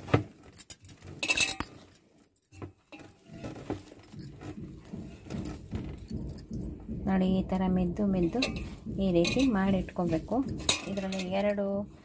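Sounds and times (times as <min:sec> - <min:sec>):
hand kneading dough in bowl: 0:01.7 - 0:12.0.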